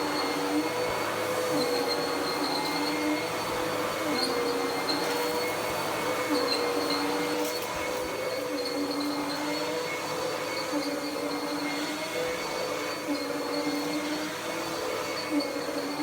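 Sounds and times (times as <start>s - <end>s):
vacuum cleaner motor whine: 0.0s - 16.0s.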